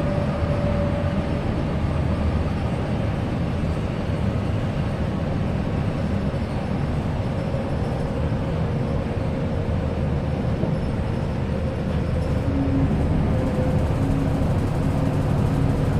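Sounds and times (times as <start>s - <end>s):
bus engine and road rumble: 0.0s - 15.9s.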